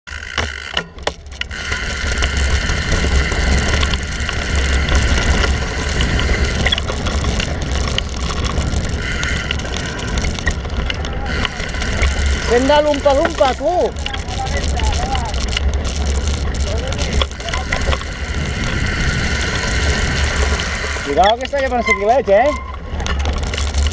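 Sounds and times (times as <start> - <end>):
freewheel hub buzz: 0.0 - 23.9
bike rattling over bumps: 0.1 - 23.9
tyres on loose dirt: 0.1 - 23.9
wind rumble on microphone: 1.9 - 21.6.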